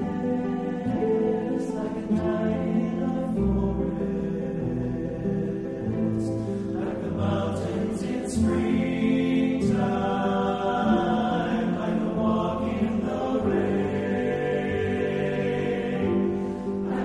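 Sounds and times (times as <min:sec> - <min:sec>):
choir singing long held notes: 0:00.0 - 0:17.0.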